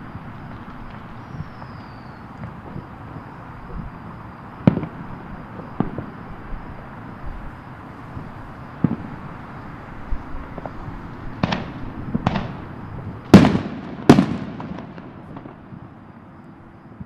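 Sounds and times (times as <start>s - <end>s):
distant fireworks booming: 0.0s - 17.0s.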